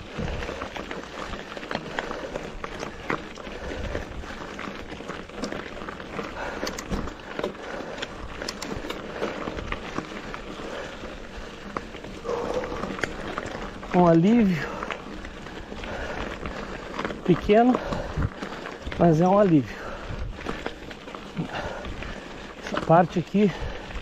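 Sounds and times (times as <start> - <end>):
bike tyres crunching over rocks: 0.0 - 24.0
rider breathing hard: 0.0 - 24.0.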